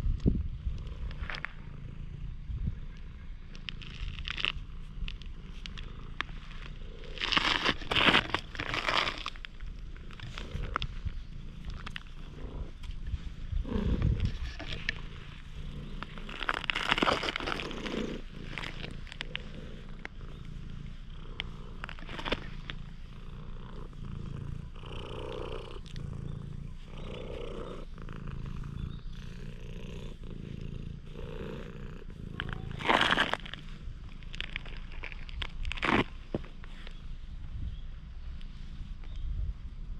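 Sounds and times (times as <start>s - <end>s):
cat purring: 0.6s - 39.9s.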